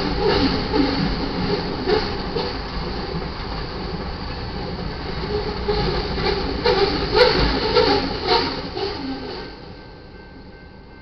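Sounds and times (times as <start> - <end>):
train wheel clacks: 0.0 - 10.5
freight train rumbling past: 0.0 - 11.0.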